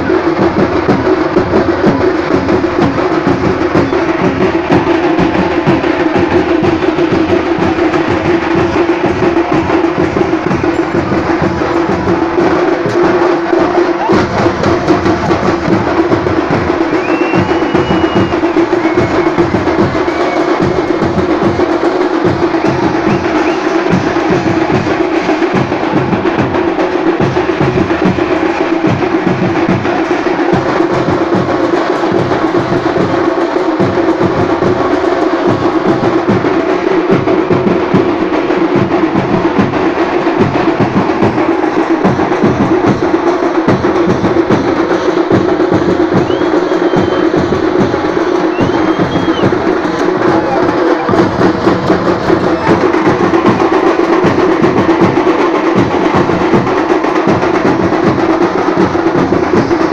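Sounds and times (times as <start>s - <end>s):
fast loud drumming: 0.0s - 59.9s.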